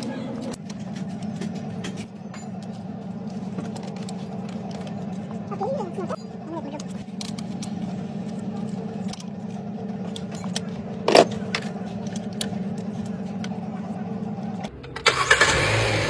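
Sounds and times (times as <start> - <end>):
car engine running: 0.0 - 16.0
louder engine sound: 0.0 - 16.0.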